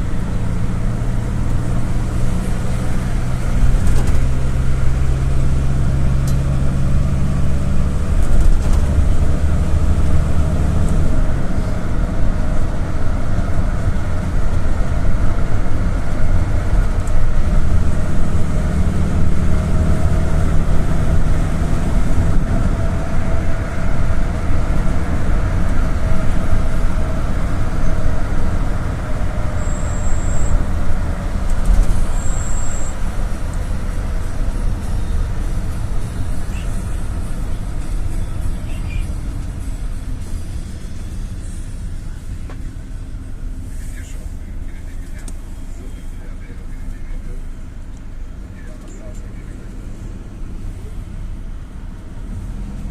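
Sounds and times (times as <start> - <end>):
engine and road rumble: 0.0 - 52.9.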